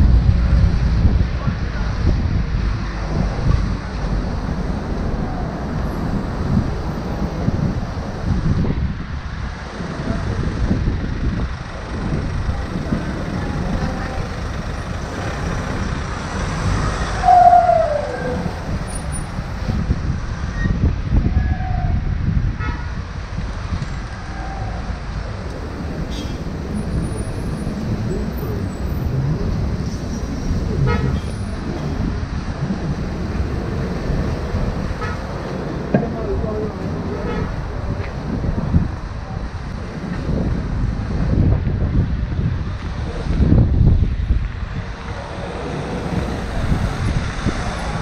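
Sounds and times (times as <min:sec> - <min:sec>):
road traffic: 0:00.0 - 0:48.0
wind on microphone: 0:00.0 - 0:48.0.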